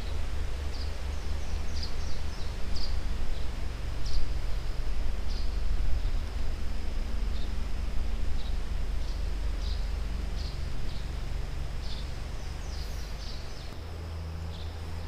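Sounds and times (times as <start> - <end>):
insect drone: 0.0 - 15.0
low rumble: 0.0 - 15.0.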